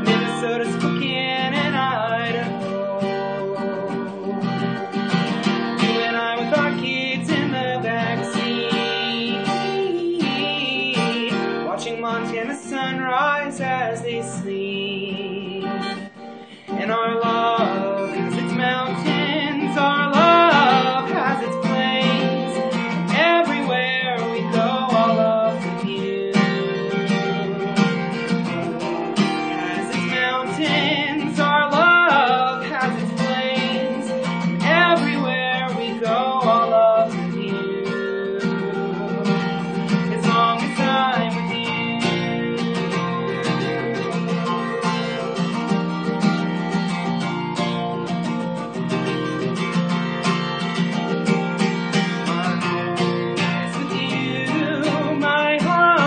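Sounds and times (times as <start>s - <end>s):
man singing: 0.0s - 47.2s, 51.2s - 56.0s
acoustic guitar strumming: 0.0s - 56.0s.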